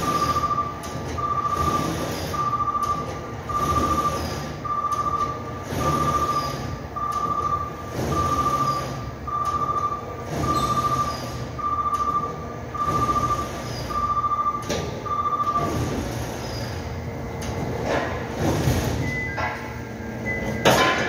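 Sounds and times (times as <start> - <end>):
electronic warning beeps: 0.0 - 17.6, 19.0 - 21.0.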